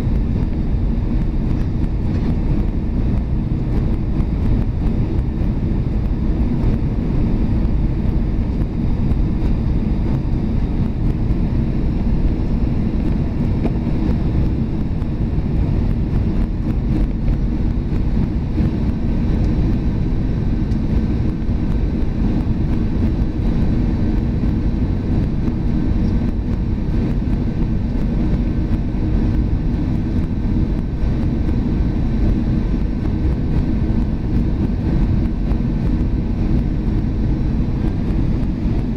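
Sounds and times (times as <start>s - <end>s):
aircraft engine rumble: 0.0s - 38.9s
faint steady whine: 0.0s - 38.9s.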